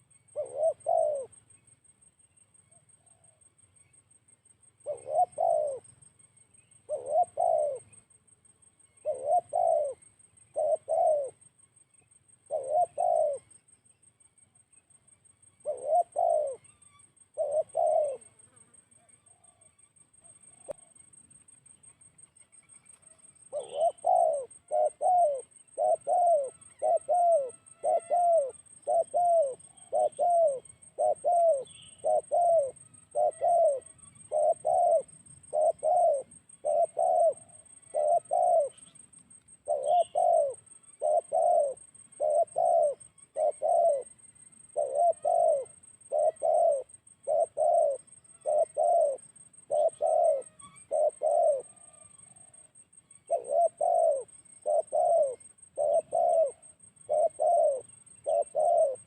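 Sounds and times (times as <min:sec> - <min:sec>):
dove cooing: 0:00.0 - 0:01.4, 0:04.8 - 0:05.9, 0:06.8 - 0:08.0, 0:09.0 - 0:11.4, 0:12.4 - 0:13.6, 0:15.6 - 0:16.7, 0:17.3 - 0:21.0, 0:22.9 - 0:59.0.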